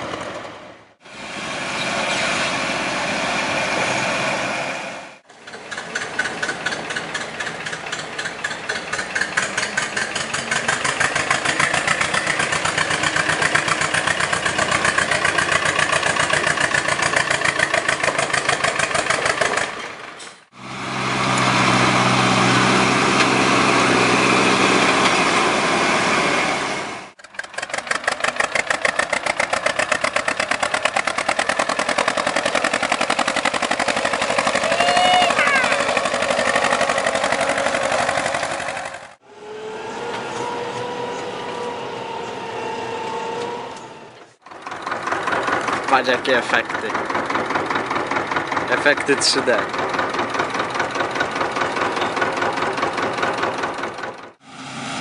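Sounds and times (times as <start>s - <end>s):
old tractor engine pulsing: 5.2s - 26.1s, 27.1s - 54.4s
tractor engine running: 5.2s - 55.0s.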